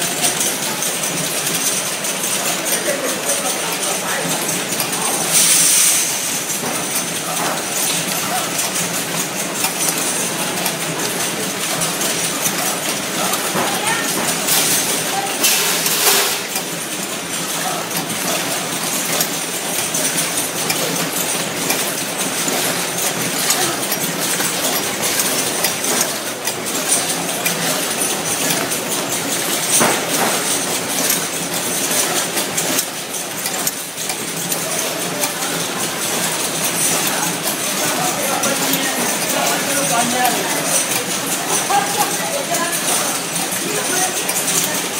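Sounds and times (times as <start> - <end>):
cartoning machine clattering: 0.0 - 44.9.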